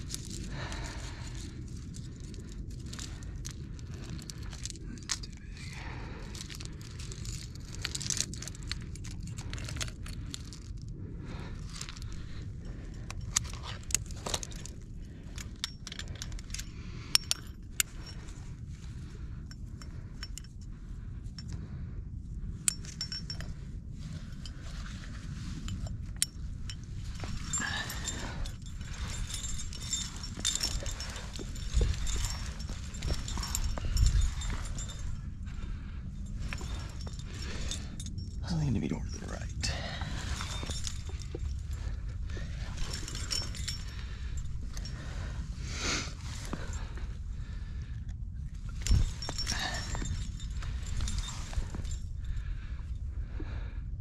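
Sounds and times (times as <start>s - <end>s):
metal climbing gear jingling: 0.0s - 53.8s
low wind rumble on microphone: 0.0s - 54.0s.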